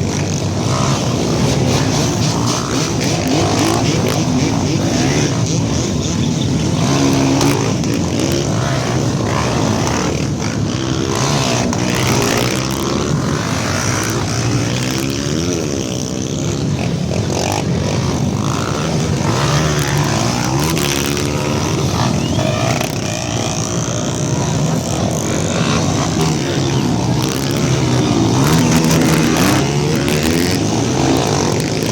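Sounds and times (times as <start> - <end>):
motorcycles revving and riding past: 0.0 - 31.9.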